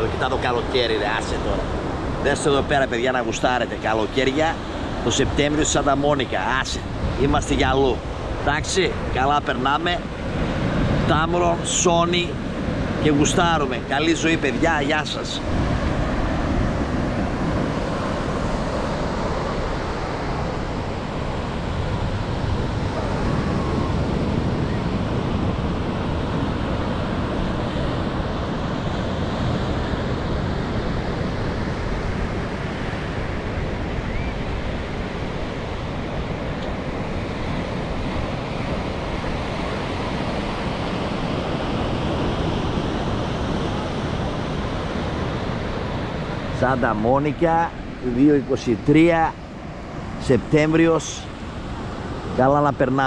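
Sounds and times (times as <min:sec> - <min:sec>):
ocean surf breaking: 0:00.0 - 0:53.0
wind rumbling on microphone: 0:00.0 - 0:53.0.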